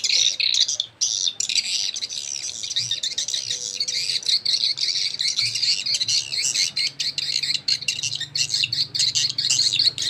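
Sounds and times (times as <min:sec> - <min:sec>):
high-pitched bird chirps from speakers: 0:00.0 - 0:10.0.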